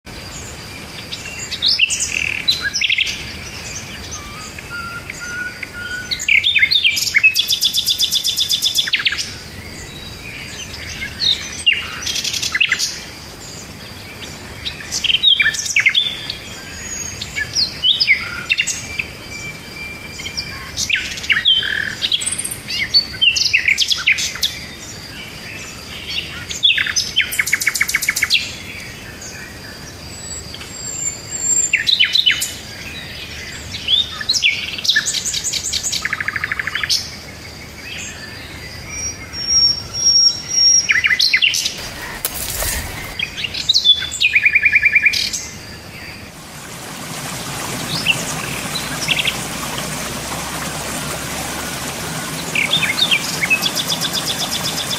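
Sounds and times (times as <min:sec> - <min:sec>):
birds singing and chirping: 0:00.2 - 0:54.9.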